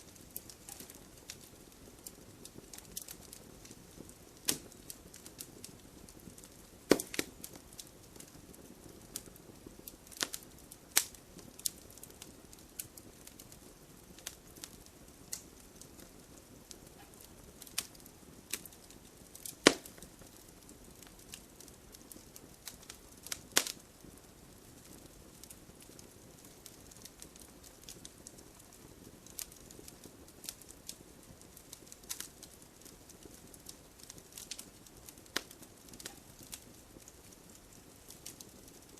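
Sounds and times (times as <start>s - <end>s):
wood logs crackling in fireplace: 0.0s - 38.9s.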